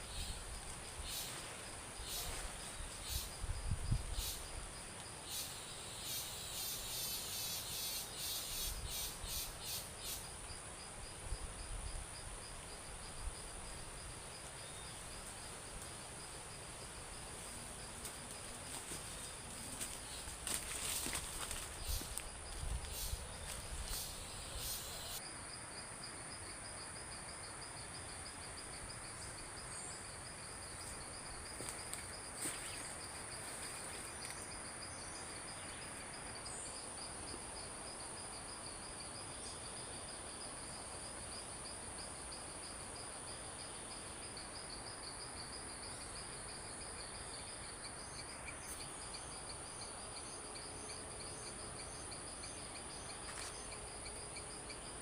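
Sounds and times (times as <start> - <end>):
insects chirping: 0.0 - 55.0
outdoor background hiss: 0.0 - 55.0.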